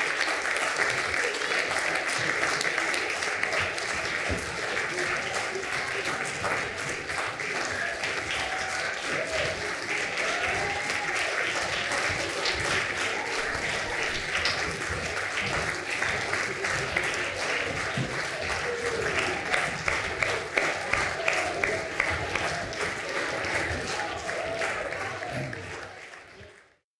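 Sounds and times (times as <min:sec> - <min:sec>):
audience applauding: 0:00.0 - 0:26.8.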